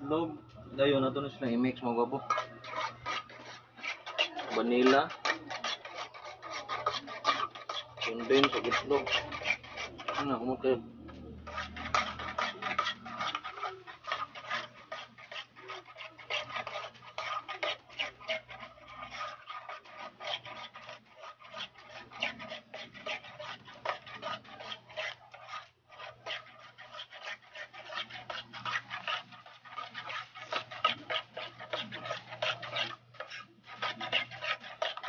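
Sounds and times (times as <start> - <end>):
whisk scraping and clicking pot: 0.0 - 35.0.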